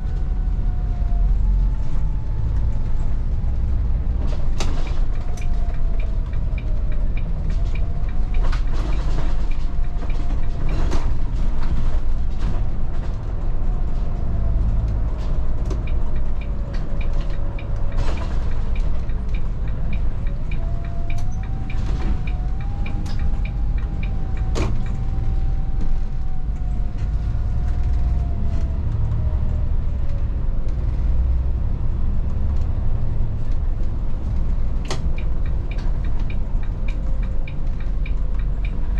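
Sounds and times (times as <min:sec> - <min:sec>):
bus engine and road rumble: 0:00.0 - 0:38.9
engine whine: 0:00.0 - 0:38.9.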